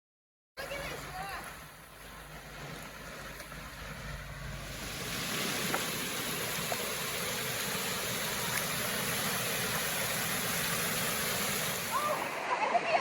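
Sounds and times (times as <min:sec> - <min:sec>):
waterfall rushing: 0:00.6 - 0:12.7.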